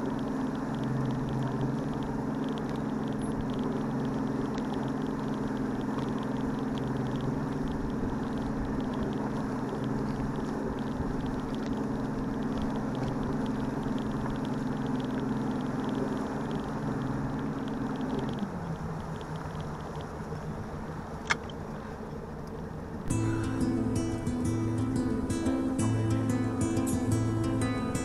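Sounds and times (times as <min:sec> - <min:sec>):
outboard motor idling: 0:00.0 - 0:28.0.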